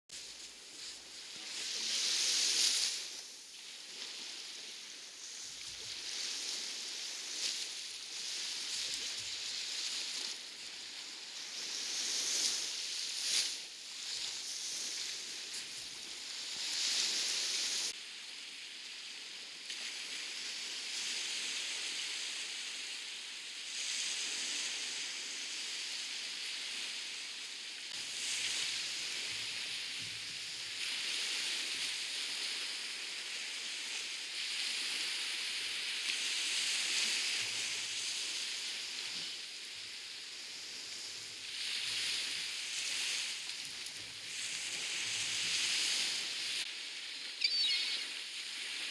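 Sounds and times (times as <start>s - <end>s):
small waves washing on shore: 0.1s - 48.9s.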